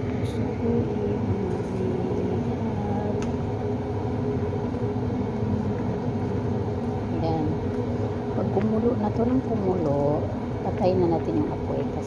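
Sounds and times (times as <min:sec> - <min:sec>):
gas stove burner humming: 0:00.0 - 0:12.0.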